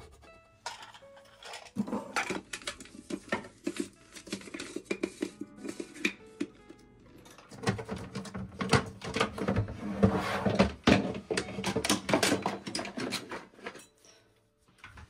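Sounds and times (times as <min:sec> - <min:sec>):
kitchen appliances knocking and clattering: 0:00.0 - 0:06.5, 0:07.2 - 0:13.9.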